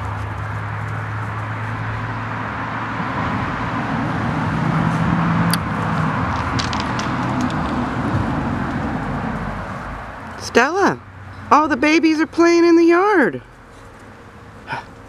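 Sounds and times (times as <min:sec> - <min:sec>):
road traffic engine hum: 0:00.0 - 0:15.0.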